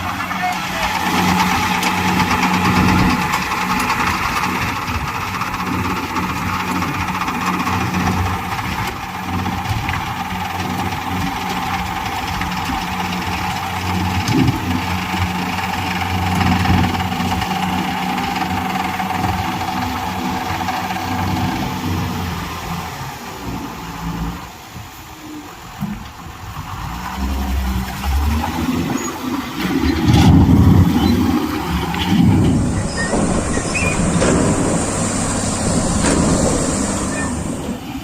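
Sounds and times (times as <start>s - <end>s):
diesel engine running: 0.0s - 24.9s, 25.6s - 38.0s.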